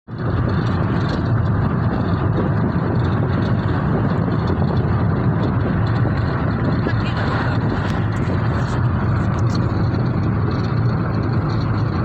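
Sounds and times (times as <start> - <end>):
car rumbling in motion: 0.1 - 12.0.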